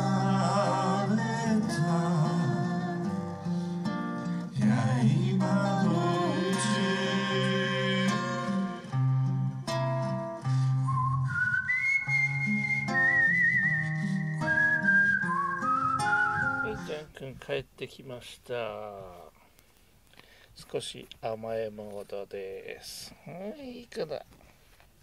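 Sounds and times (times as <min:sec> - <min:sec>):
acoustic guitar: 0:00.0 - 0:22.0.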